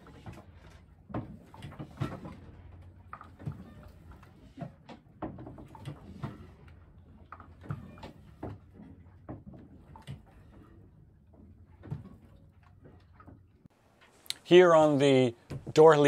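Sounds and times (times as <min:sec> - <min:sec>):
knocks clicks and creaks in boat cabin: 0:00.0 - 0:14.2, 0:15.3 - 0:16.0.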